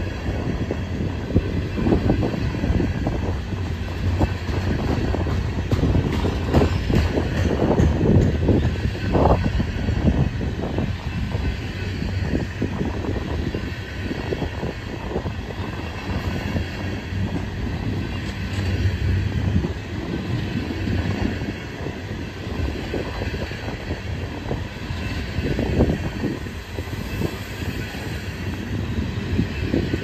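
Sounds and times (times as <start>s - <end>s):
freight train rumbling past: 0.0s - 30.0s
train wheels clanking on rails: 0.0s - 30.0s.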